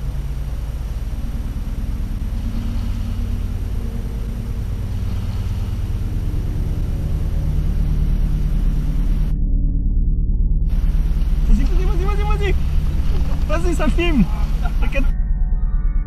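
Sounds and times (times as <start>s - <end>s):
outboard motor running: 0.0s - 9.4s, 10.7s - 15.1s.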